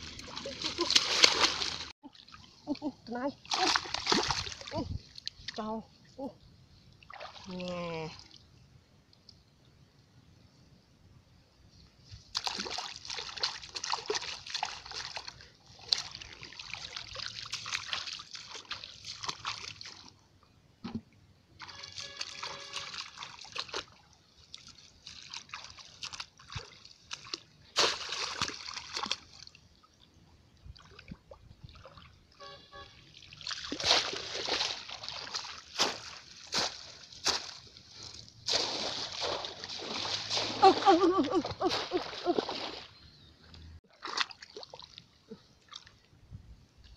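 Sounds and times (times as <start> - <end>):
muddy water sloshing and splashing: 0.0 - 8.5, 12.1 - 20.3, 20.9 - 46.2.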